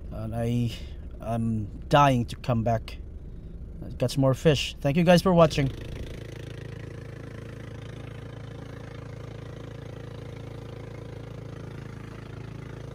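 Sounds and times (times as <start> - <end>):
boat engine running: 0.9 - 12.9.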